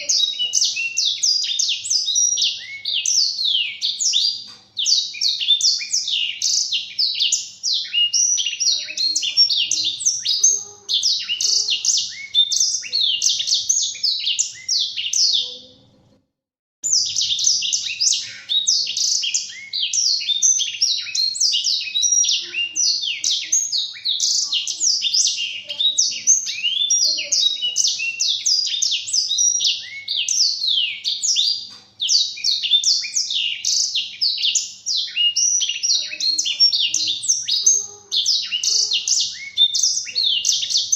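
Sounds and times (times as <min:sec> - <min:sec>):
bird twittering song: 0:00.0 - 0:16.1, 0:16.8 - 0:40.9.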